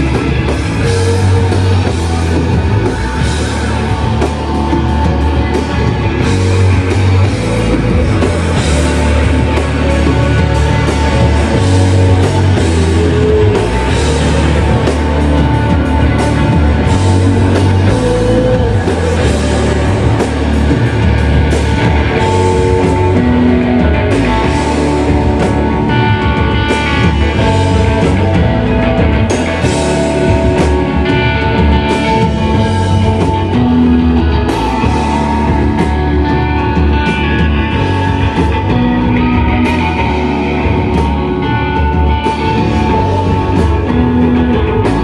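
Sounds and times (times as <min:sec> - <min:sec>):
rock band with distorted guitars: 0:00.0 - 0:45.0.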